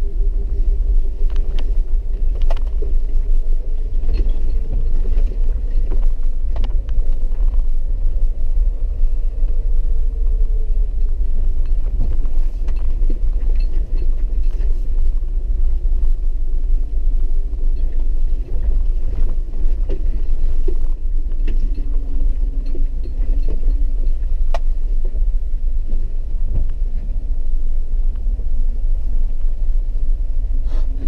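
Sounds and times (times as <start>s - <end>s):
faint hum: 0.0s - 31.0s
vehicle engine and road rumble: 0.0s - 31.0s.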